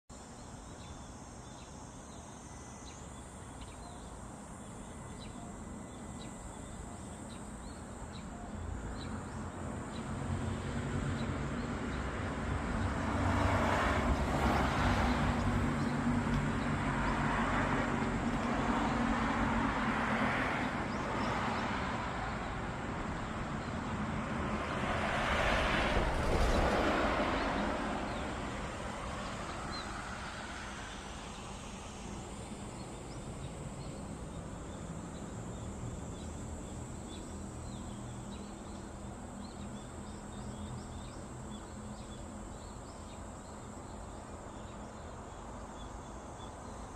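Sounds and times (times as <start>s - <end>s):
vehicles passing: 1.2s - 46.9s.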